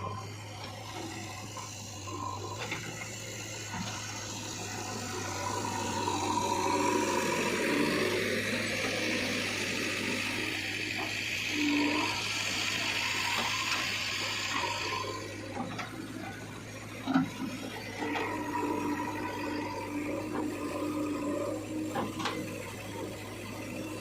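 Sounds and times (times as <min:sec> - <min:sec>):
backhoe motor hum: 0:00.0 - 0:24.0.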